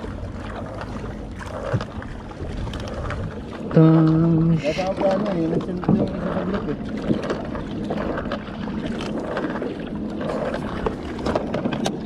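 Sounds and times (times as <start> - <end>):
water lapping against kayak hull: 0.0 - 12.0
wind on microphone: 0.7 - 12.0.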